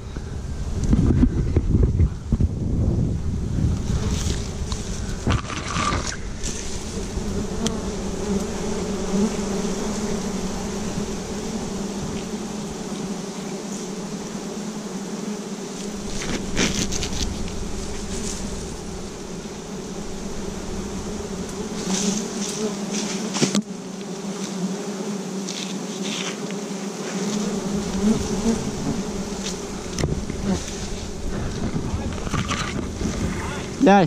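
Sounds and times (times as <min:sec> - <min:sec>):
bees humming: 0:03.1 - 0:34.0.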